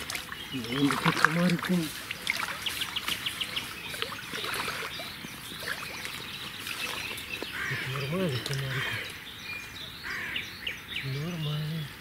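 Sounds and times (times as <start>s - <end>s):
water: 0.0s - 10.1s
small birds chirping: 0.0s - 12.0s.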